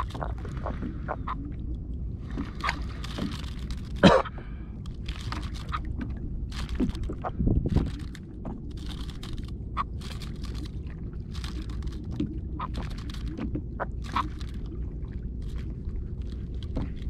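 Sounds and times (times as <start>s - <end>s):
low wind rumble: 0.0s - 17.0s
water lapping against kayak hull: 0.0s - 17.0s.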